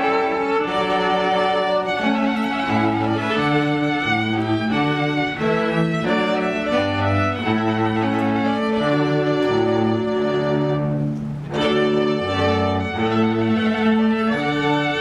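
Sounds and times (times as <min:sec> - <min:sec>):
instrumental string music: 0:00.0 - 0:15.0.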